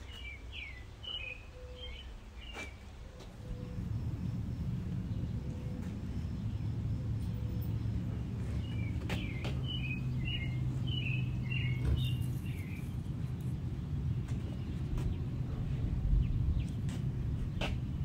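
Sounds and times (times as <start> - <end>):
songbird chirping: 0.0 - 17.8
low background hum: 0.0 - 18.0.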